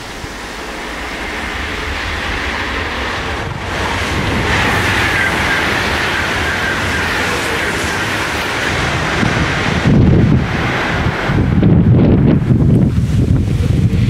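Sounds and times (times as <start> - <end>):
high whine: 0.0 - 14.0
high-speed train rushing past: 0.0 - 14.0.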